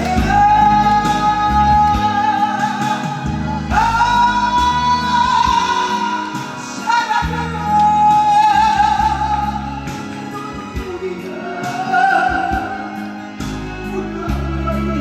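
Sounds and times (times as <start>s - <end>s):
person singing long held notes: 0.0s - 15.0s
pop backing track: 0.0s - 15.0s.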